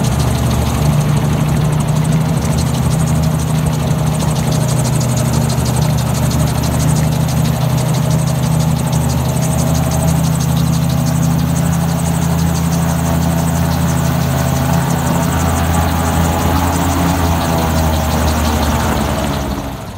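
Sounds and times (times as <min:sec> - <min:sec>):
gyroplane engine and propeller: 0:00.0 - 0:19.9.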